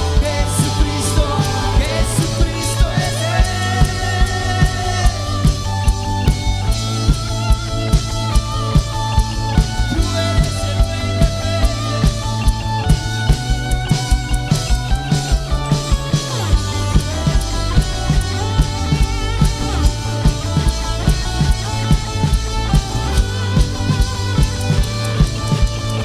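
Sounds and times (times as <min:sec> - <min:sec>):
bass: 0:00.0 - 0:26.0
guitar melody: 0:00.0 - 0:26.0
steady drum beat: 0:00.0 - 0:26.0.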